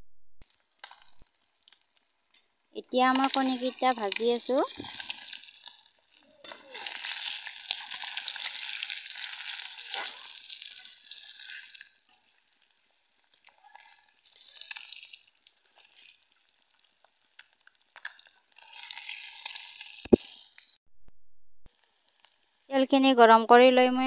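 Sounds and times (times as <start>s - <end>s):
eggs sizzling in hot oil: 0.4s - 20.8s, 21.7s - 23.3s.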